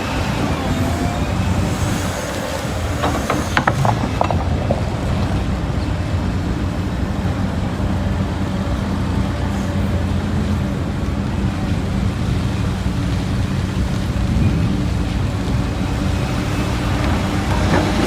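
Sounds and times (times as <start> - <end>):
heavy diesel engines droning: 0.0 - 18.0.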